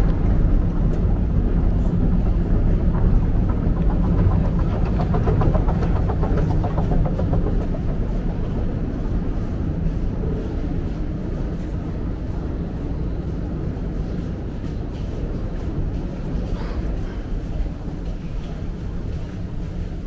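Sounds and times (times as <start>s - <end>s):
escalator machinery rumble: 0.0s - 20.0s.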